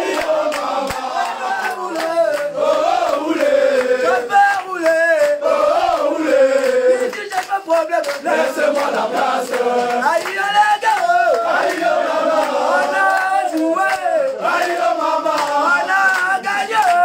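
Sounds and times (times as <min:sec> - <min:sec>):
men chanting and singing: 0:00.0 - 0:17.0.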